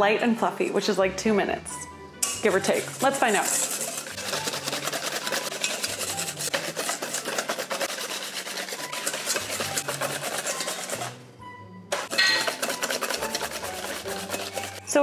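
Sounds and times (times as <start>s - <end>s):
wire whisk scraping metal bowl: 2.2s - 11.2s, 11.9s - 15.0s.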